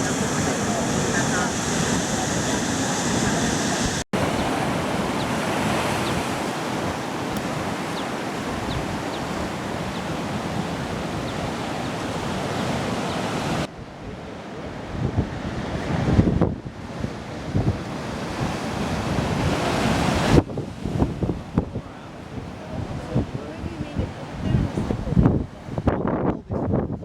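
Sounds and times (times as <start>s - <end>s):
ocean waves washing: 0.0s - 26.9s
wind gusts buffeting microphone: 0.0s - 27.0s.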